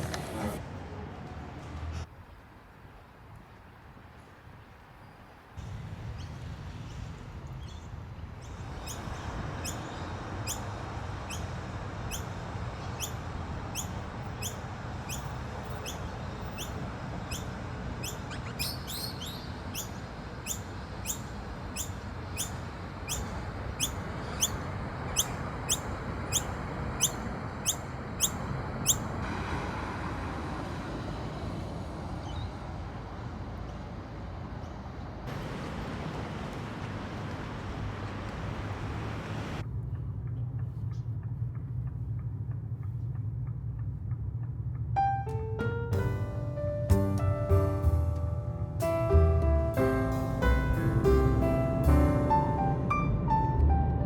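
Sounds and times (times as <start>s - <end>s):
low rumble of city traffic: 0.0s - 54.0s.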